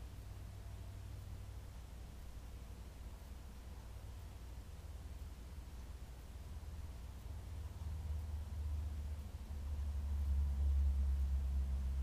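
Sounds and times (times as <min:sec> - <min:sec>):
faint hiss: 0:00.0 - 0:12.0
steady low rumble: 0:00.0 - 0:12.0.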